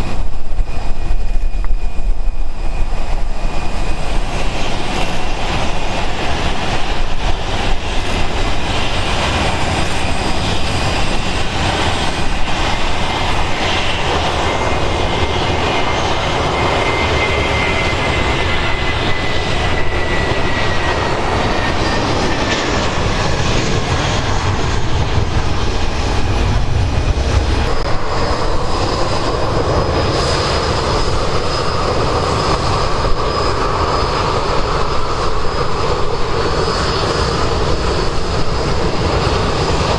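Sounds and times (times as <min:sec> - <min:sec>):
engine whine gliding in pitch: 0:00.0 - 0:39.9
jet engines rushing: 0:00.0 - 0:39.9.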